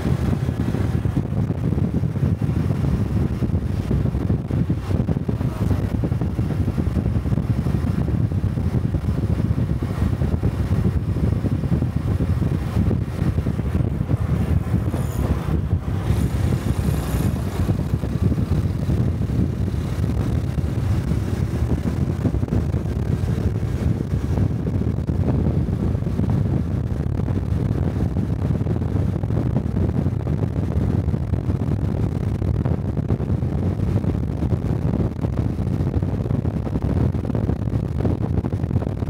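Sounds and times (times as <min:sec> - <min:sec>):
motorcycle engine running: 0:00.0 - 0:39.0
wind rumbling on microphone: 0:00.0 - 0:39.0.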